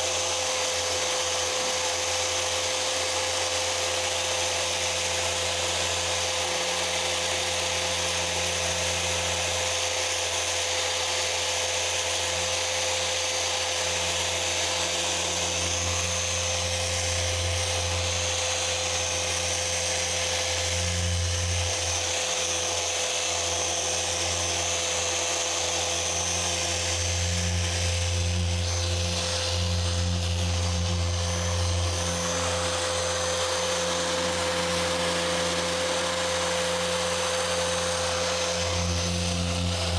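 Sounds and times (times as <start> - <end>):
electric orbital polisher whining: 0.0 - 39.9.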